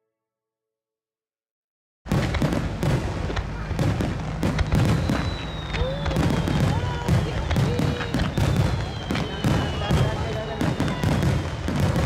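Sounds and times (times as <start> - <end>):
fireworks bangs and crackles: 2.1 - 12.0
crowd voices: 2.2 - 12.0.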